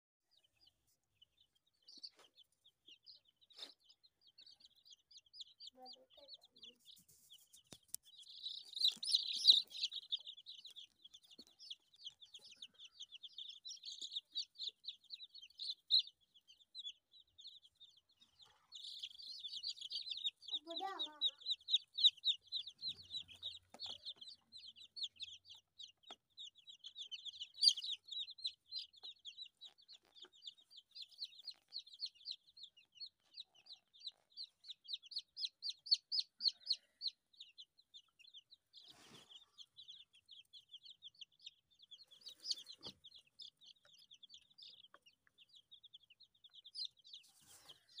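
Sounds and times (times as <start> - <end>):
chicks peeping: 0.3 - 48.0.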